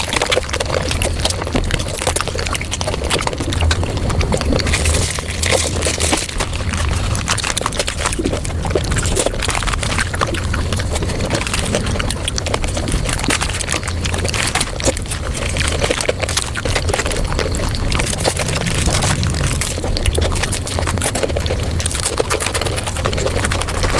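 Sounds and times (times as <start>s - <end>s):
rapid chewing: 0.0s - 23.9s.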